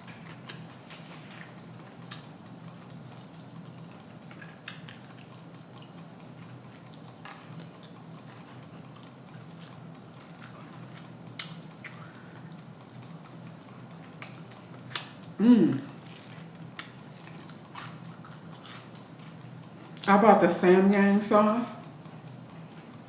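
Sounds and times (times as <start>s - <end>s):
person chewing: 0.0s - 20.1s
steady low hum: 0.0s - 23.0s.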